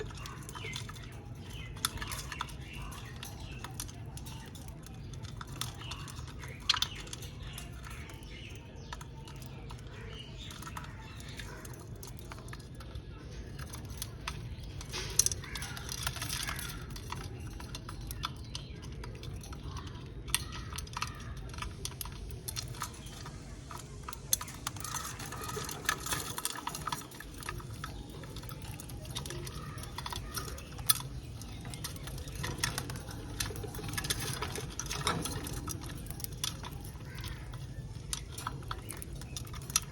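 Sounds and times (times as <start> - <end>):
birds chirping softly: 0.0 - 39.9
birds cracking seeds: 0.0 - 39.9.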